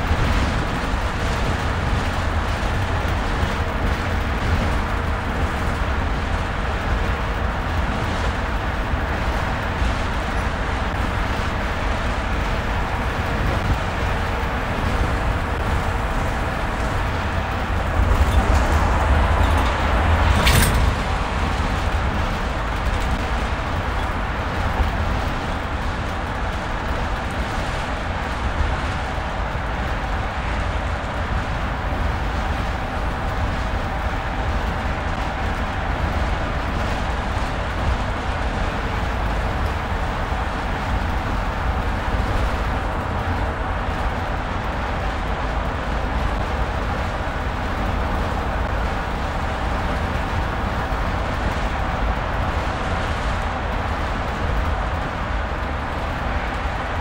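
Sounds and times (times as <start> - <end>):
tyres rumbling on road: 0.0 - 57.0.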